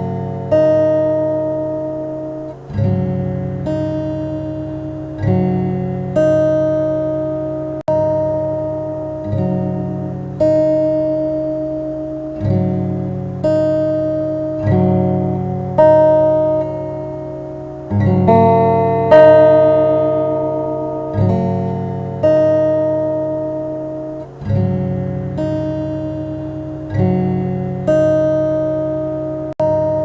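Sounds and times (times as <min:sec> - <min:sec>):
slow acoustic guitar chords: 0:00.0 - 0:30.0.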